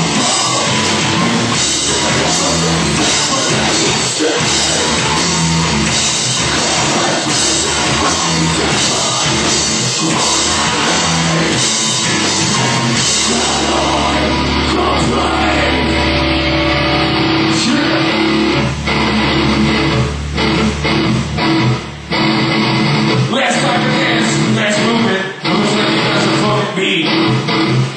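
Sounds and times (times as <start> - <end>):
loud rock music: 0.0 - 27.9.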